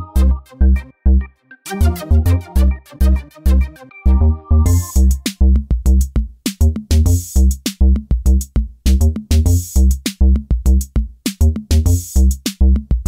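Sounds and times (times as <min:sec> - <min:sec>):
electronic music with drum-machine beat: 0:00.0 - 0:13.0.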